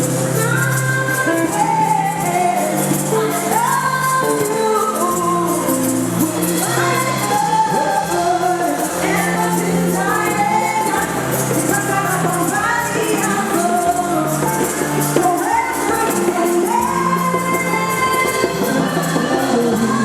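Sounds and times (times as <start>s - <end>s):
live band: 0.0s - 20.0s
person singing: 0.0s - 20.0s.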